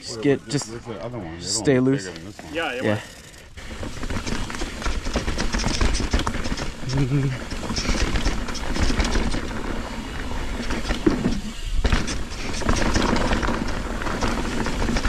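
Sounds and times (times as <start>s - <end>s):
bike tyres rolling over dirt: 2.2s - 15.0s
bike chain and frame rattling: 2.3s - 15.0s.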